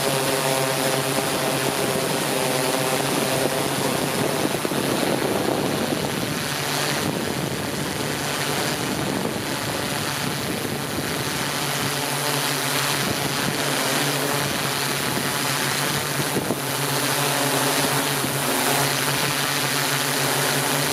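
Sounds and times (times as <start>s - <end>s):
drone motors humming: 0.0s - 20.9s.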